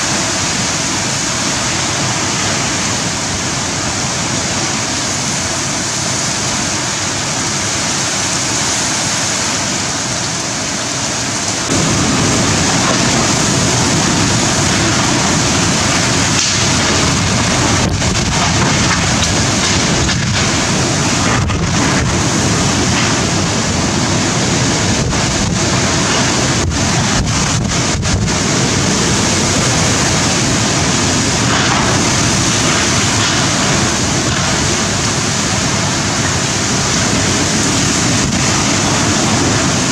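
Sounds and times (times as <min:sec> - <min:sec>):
wind-driven heavy rain: 0:00.0 - 0:39.9.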